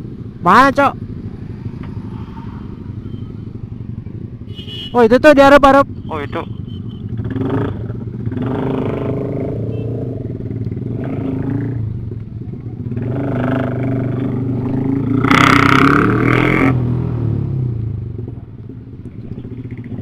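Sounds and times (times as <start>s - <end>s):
motorcycle engine running: 0.0s - 16.0s, 17.7s - 20.0s
road and wind noise: 0.0s - 20.0s.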